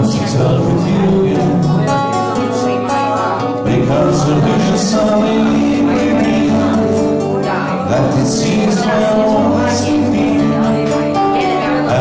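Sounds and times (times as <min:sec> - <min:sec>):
acoustic guitars playing: 0:00.0 - 0:12.0
man singing: 0:00.0 - 0:12.0.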